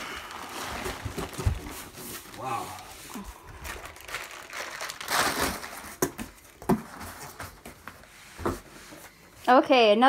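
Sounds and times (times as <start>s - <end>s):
bubble wrap crinkling: 0.0s - 8.1s.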